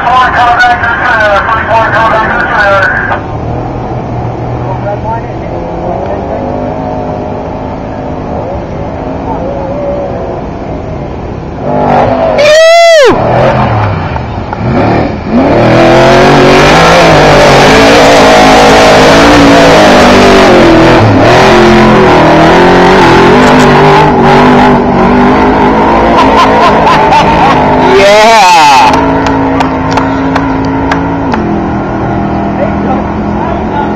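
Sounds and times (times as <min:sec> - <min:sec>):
truck engine running hard: 0:00.0 - 0:33.9.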